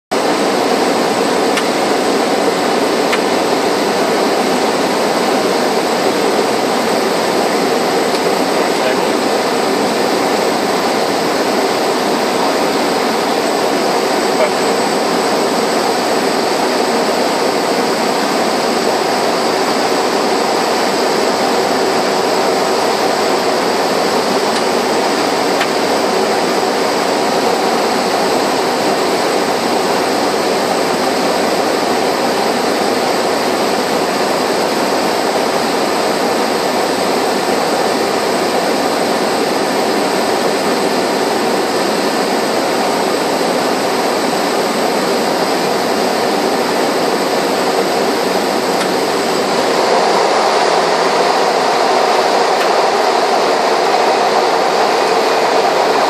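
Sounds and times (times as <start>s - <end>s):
propeller engine drone in cockpit: 0.1s - 56.0s.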